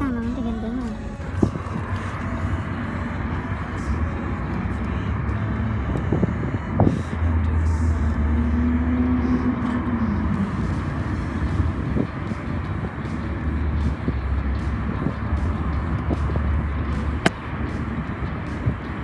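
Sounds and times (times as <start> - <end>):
car tyre and engine rumble: 0.0 - 19.0
traffic passing: 0.0 - 19.0.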